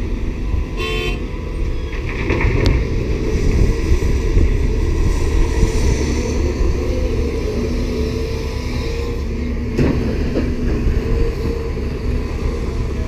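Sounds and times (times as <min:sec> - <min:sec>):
dump truck running: 0:00.0 - 0:13.0
excavator running: 0:00.0 - 0:13.0
wind buffeting microphone: 0:00.0 - 0:13.0.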